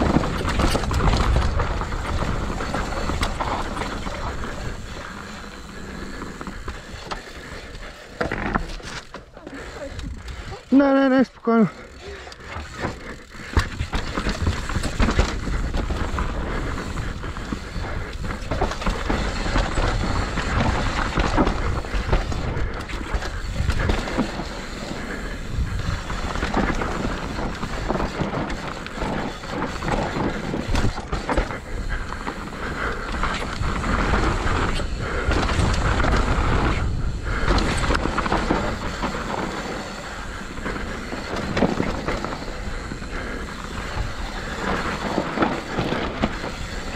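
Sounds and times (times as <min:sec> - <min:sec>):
tyres crunching over dirt: 0:00.0 - 0:10.8, 0:11.8 - 0:46.9
bike chain and frame rattling: 0:00.0 - 0:46.9.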